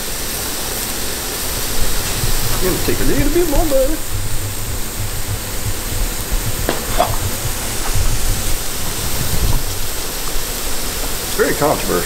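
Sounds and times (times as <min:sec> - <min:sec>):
burger patties sizzling on griddle: 0:00.0 - 0:12.0.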